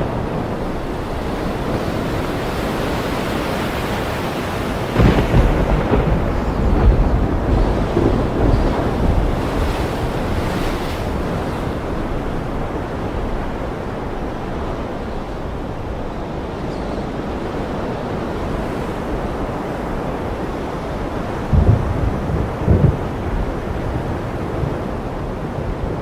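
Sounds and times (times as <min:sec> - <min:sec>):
ocean surf washing: 0:00.0 - 0:26.0.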